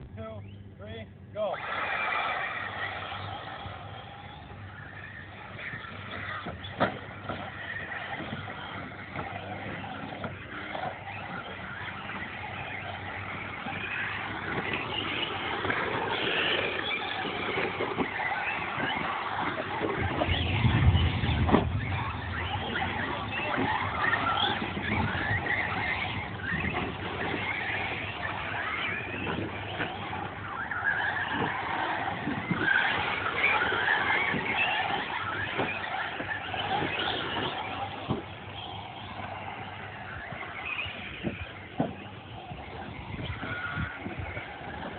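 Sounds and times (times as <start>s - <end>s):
radio-controlled cars racing: 0.0s - 44.9s
tyre noise: 1.5s - 44.9s.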